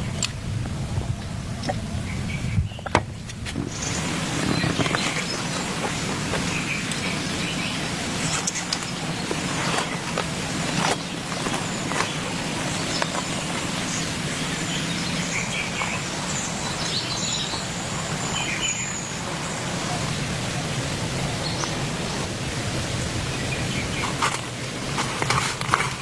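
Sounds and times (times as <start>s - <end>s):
rain falling: 3.3s - 26.0s.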